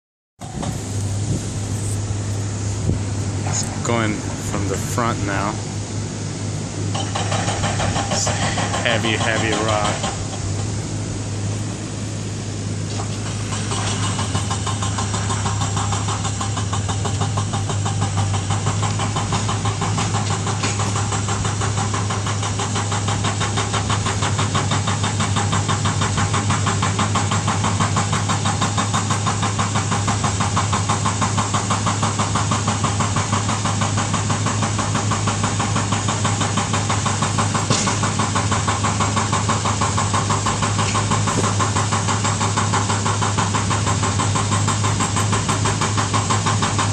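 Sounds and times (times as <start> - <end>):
dozer diesel engine running: 0.4 - 46.9.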